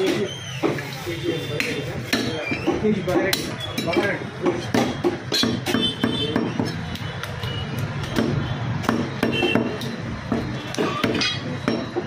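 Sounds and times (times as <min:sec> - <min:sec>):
steady background din: 0:00.0 - 0:12.0
cleaver chopping meat on wood: 0:01.6 - 0:12.0.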